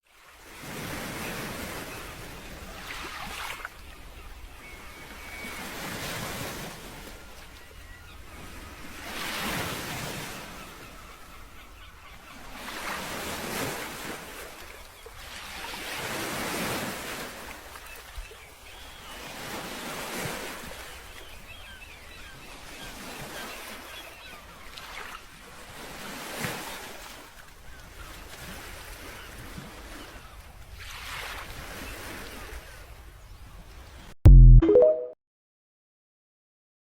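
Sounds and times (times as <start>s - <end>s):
waves breaking on shore: 0.1s - 7.7s, 8.3s - 11.2s, 12.4s - 34.0s.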